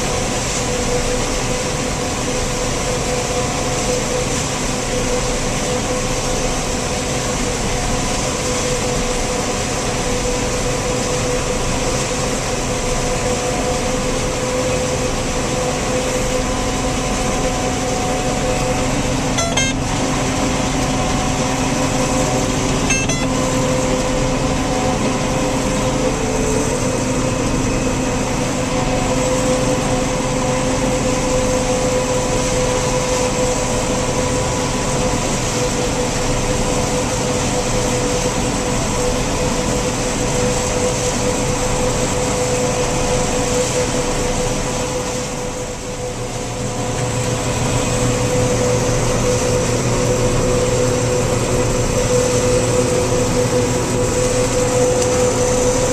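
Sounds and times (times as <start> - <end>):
farm machinery engine drone: 0.0 - 55.9
machine whine: 0.0 - 55.9.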